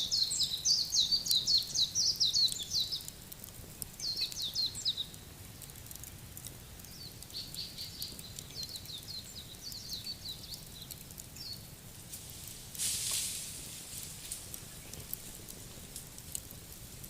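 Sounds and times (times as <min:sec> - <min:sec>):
songbirds chirping: 0:00.0 - 0:17.0
wood fire crackling: 0:00.0 - 0:17.0.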